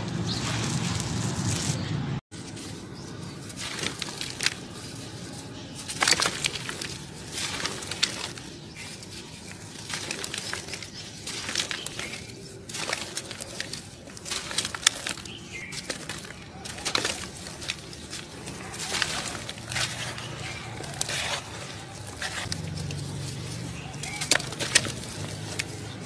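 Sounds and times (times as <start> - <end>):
dry material crunching by hand: 0.0 - 26.0.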